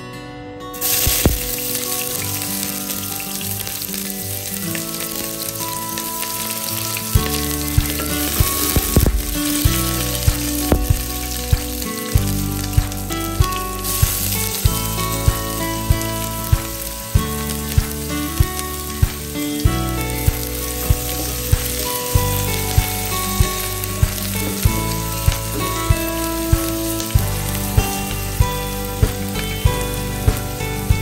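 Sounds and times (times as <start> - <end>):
onions sizzling in oil: 0.8 - 30.9
background music with beat: 0.8 - 31.0.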